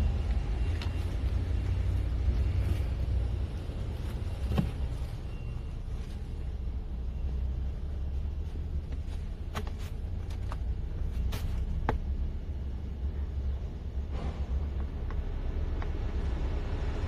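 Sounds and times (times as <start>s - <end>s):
low car cabin rumble: 0.0s - 17.0s.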